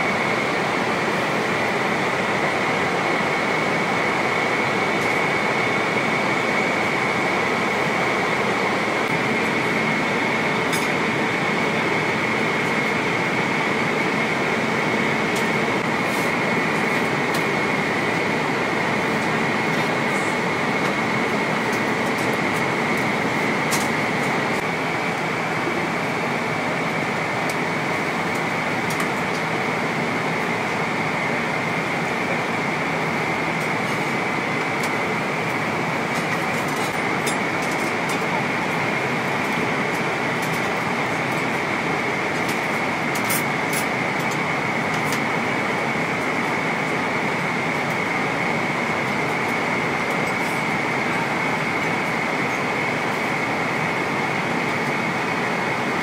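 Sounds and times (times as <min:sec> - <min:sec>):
airliner cabin noise: 0:00.0 - 0:56.0.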